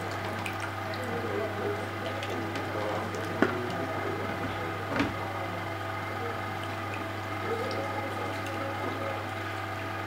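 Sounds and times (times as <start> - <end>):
pump humming: 0.0 - 10.0.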